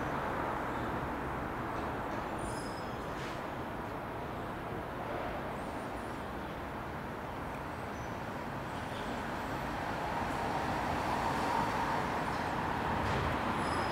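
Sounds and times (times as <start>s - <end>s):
distant traffic rumble: 0.0s - 13.9s.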